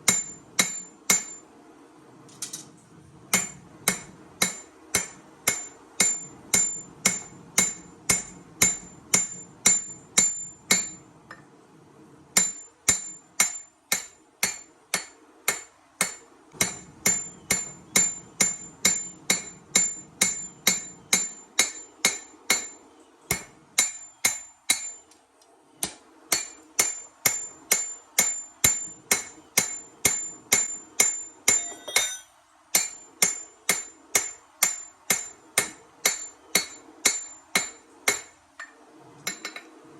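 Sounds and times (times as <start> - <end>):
hammer striking steel on anvil: 0.0 - 1.4, 3.3 - 11.0, 12.4 - 25.0, 25.8 - 38.7.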